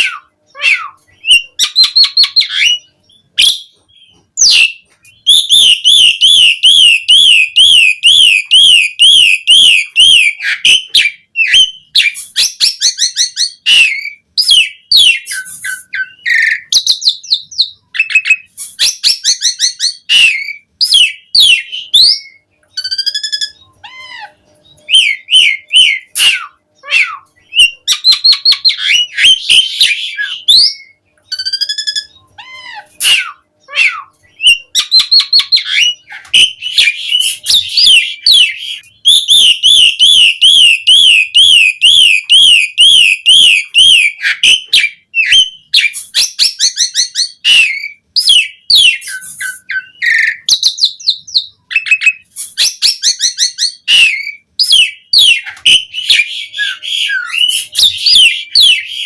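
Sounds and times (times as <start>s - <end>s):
starling singing whistles and chatter: 0.0s - 59.0s.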